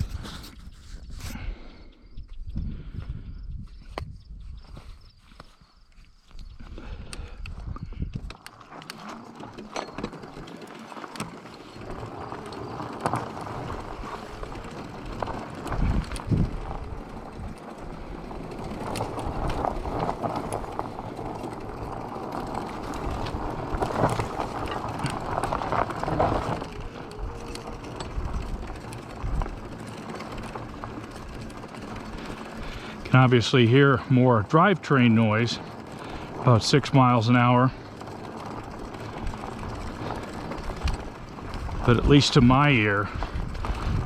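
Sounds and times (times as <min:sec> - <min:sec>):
bicycle chain rattling: 0:08.2 - 0:44.0.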